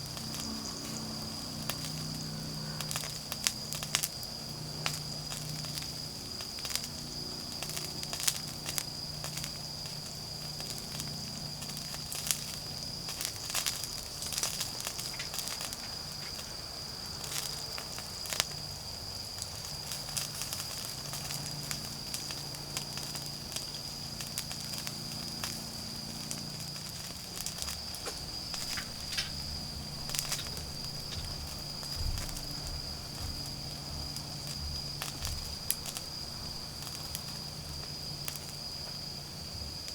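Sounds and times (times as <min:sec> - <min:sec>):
insects trilling: 0:00.0 - 0:39.9
wood fire crackling and popping: 0:00.0 - 0:39.9.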